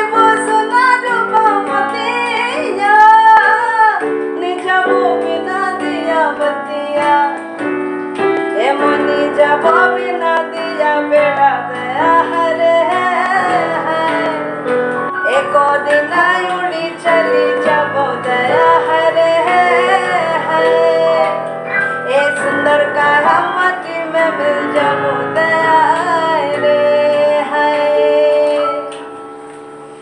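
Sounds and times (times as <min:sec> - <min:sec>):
woman singing folk song: 0:00.0 - 0:07.5, 0:08.5 - 0:14.5, 0:15.2 - 0:21.4, 0:22.1 - 0:28.9
keyboard chords: 0:00.0 - 0:30.0.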